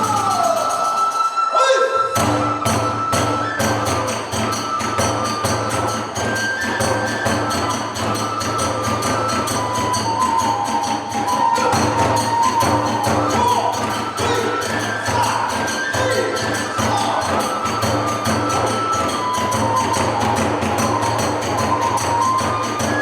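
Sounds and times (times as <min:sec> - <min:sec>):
drum beats: 0:00.0 - 0:01.3, 0:02.0 - 0:23.0
bamboo flute long high notes: 0:00.0 - 0:23.0
hand cymbal beats: 0:00.0 - 0:23.0.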